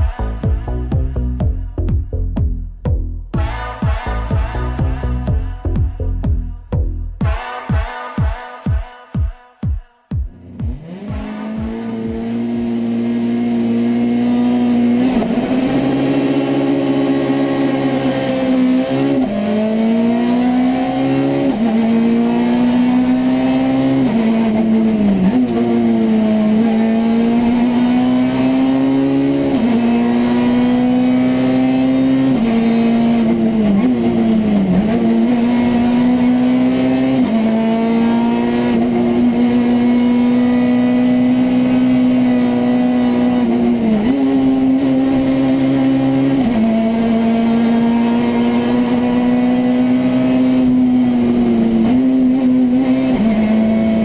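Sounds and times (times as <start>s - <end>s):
rally car engine revving: 10.3s - 54.0s.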